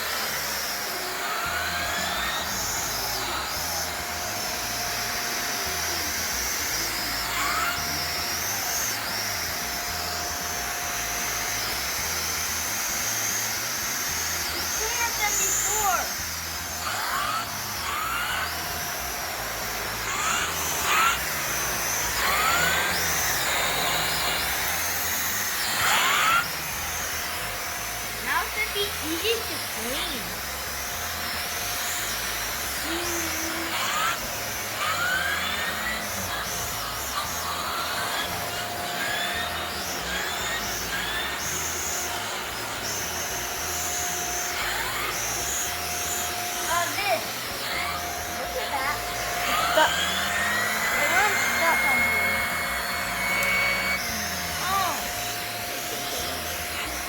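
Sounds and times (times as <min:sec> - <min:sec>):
vacuum cleaner whining: 0:00.0 - 0:57.0.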